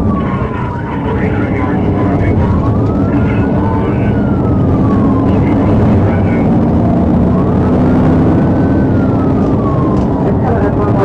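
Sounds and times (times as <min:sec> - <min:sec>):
car engine and road noise: 0:00.0 - 0:11.0
police siren wailing: 0:00.0 - 0:11.0.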